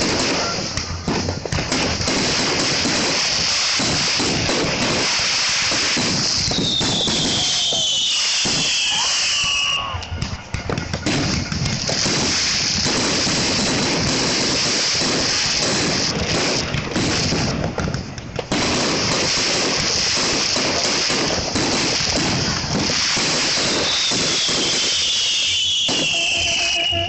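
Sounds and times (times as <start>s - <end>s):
falling firework whistle: 0.0s - 16.1s, 19.1s - 27.0s
fireworks banging and crackling: 0.0s - 27.0s.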